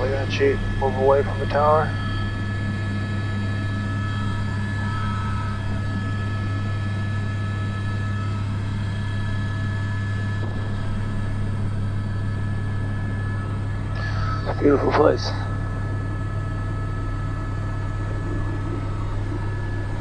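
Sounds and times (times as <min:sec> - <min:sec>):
helicopter rotor drone: 0:00.0 - 0:20.0
turbine high whine: 0:00.0 - 0:20.0.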